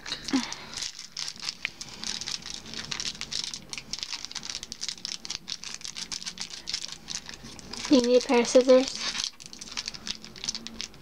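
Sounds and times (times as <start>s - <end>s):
foil wrapper crinkling: 0.1s - 11.0s.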